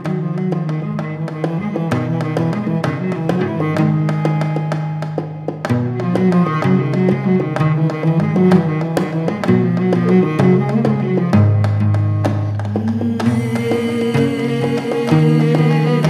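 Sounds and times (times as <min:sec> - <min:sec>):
hand drums beating: 0:00.0 - 0:16.0
plucked strings melody: 0:00.0 - 0:16.0.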